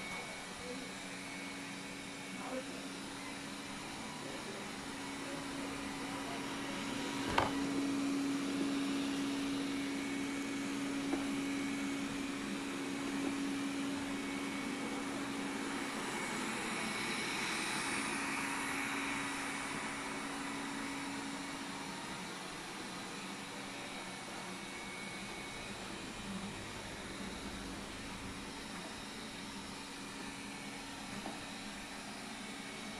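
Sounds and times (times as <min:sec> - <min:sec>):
robot vacuum humming and hissing: 0:00.0 - 0:32.9.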